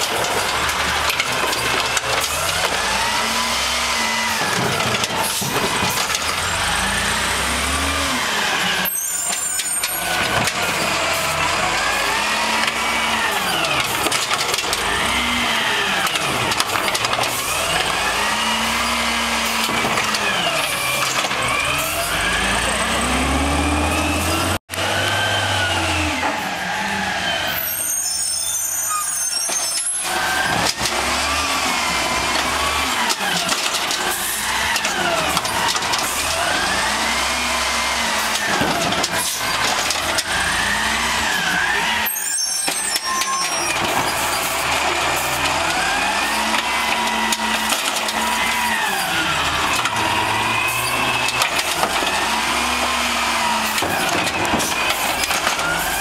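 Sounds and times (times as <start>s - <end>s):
truck engine revving: 0.0s - 28.2s, 30.0s - 56.0s.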